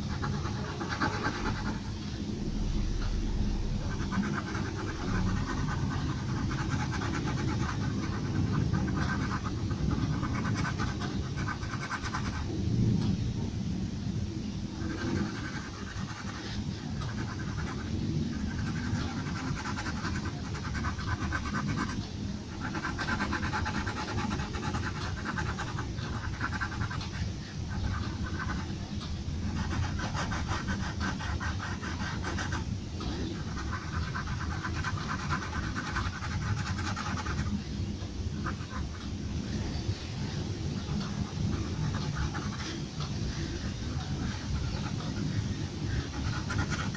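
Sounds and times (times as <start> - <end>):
pencil scratching on paper: 0.0 - 13.1, 14.7 - 46.9
low room rumble: 0.0 - 46.9.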